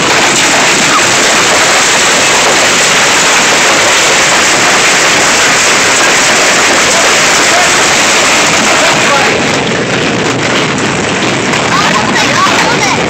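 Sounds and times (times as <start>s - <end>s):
hail and heavy rain pelting: 0.0s - 13.0s.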